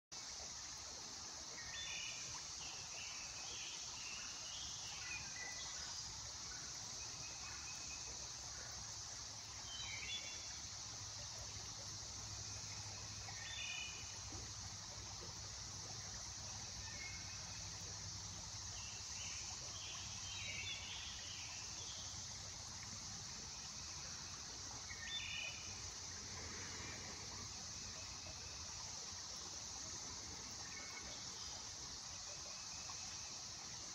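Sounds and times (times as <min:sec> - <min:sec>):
high-pitched insect chorus: 0:00.2 - 0:33.9.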